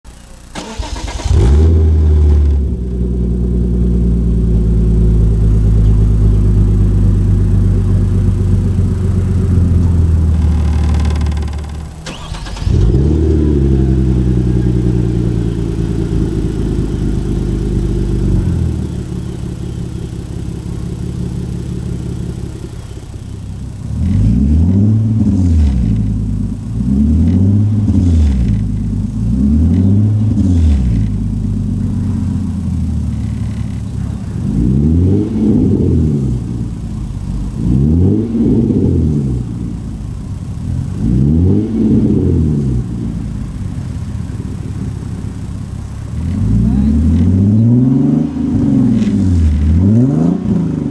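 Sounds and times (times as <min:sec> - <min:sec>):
car engine starting and idling: 0:00.1 - 0:50.9
car engine revving: 0:00.2 - 0:50.9.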